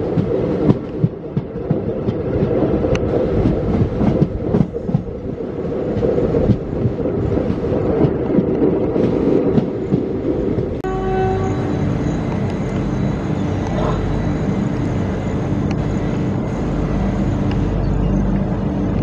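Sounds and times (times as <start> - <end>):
train coach rumbling: 0.0 - 19.0.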